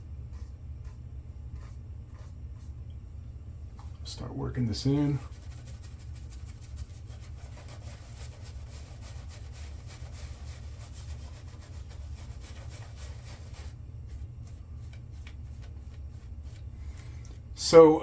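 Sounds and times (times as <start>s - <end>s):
shaving brush scrubbing face: 0.0s - 2.8s, 4.5s - 17.4s
steady low hum: 0.0s - 18.0s.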